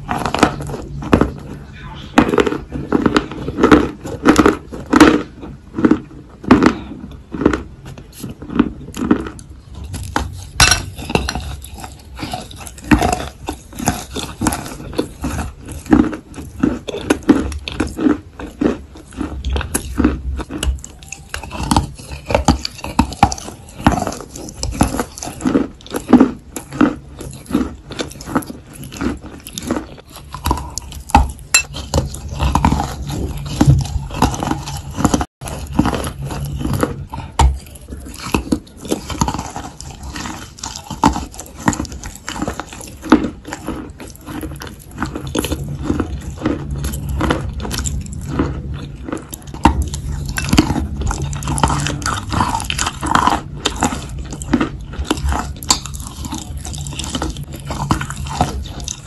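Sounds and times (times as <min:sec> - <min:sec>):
chalk crunching while chewed: 0:00.0 - 0:59.0.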